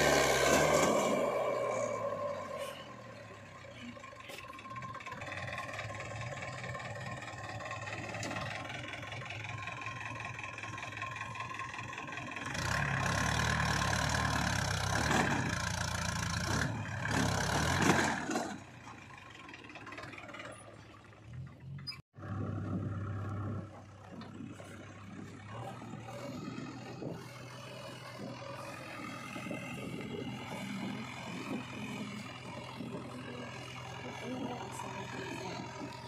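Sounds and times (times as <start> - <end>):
backhoe diesel engine running: 0.0 - 36.0
tractor diesel engine under load: 0.0 - 36.0.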